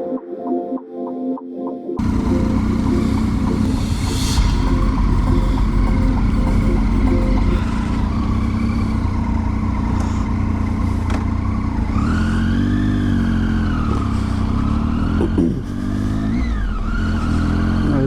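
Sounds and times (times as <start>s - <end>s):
motorcycle engine running: 2.0s - 18.0s
wind and road noise: 2.0s - 18.0s.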